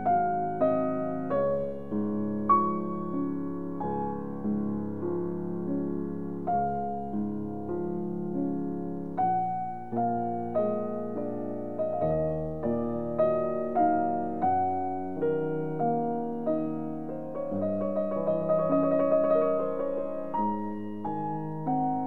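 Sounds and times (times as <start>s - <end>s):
gentle piano piece: 0.0s - 22.0s.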